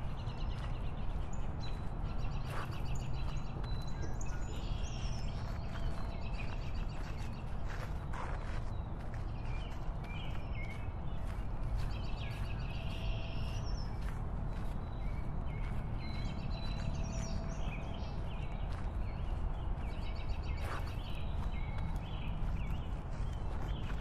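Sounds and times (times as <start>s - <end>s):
birds chirping: 0.0s - 24.0s
wind and road noise: 0.0s - 24.0s.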